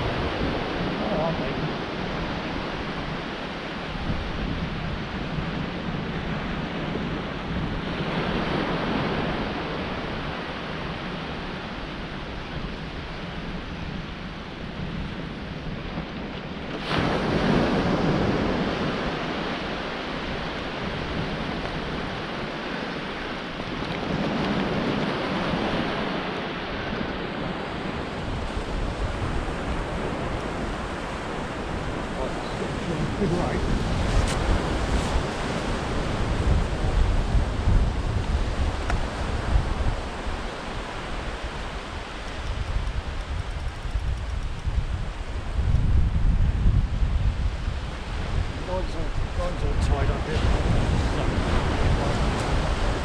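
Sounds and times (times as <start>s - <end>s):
sea waves breaking on shore: 0.0s - 53.0s
wind rumbling on microphone: 0.0s - 53.0s.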